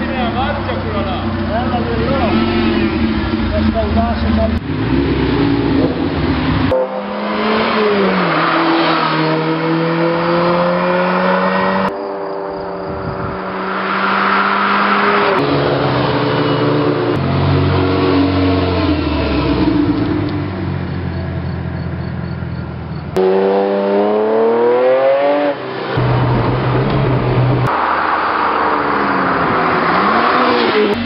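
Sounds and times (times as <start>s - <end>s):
car engine driving away: 0.0s - 31.0s.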